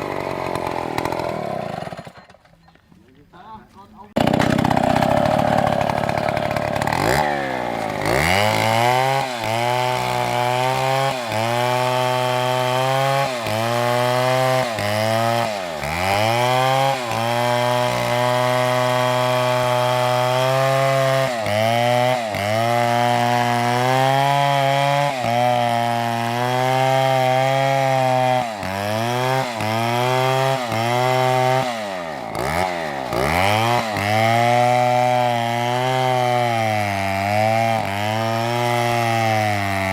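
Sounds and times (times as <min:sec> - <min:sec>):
chainsaw cutting wood: 0:00.0 - 0:02.7, 0:04.0 - 0:39.9.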